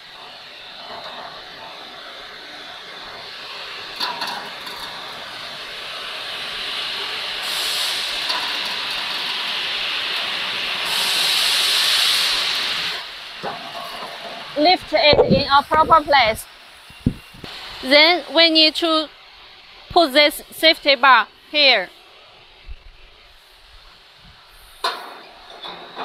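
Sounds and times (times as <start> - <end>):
machine rushing hiss: 0.0 - 25.6.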